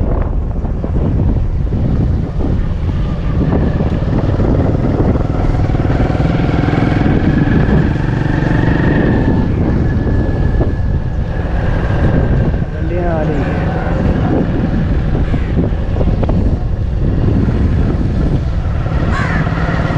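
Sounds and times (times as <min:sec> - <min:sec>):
motorcycle engine running: 0:00.0 - 0:19.9
wind buffeting microphone: 0:00.0 - 0:19.9.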